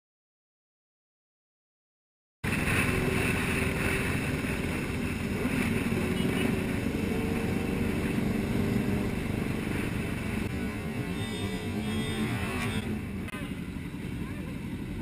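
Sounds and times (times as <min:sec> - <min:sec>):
vehicle engine and road noise: 0:02.4 - 0:15.0.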